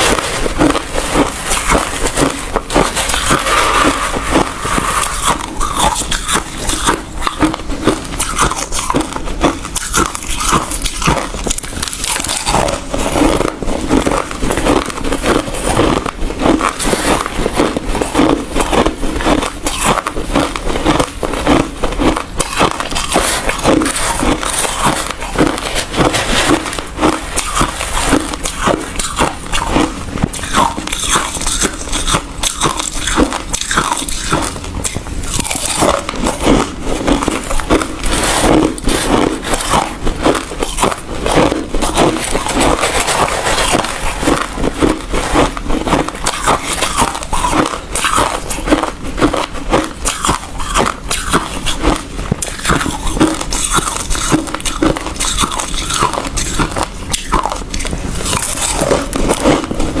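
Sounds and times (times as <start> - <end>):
ice being chewed crunching: 0.0 - 60.0.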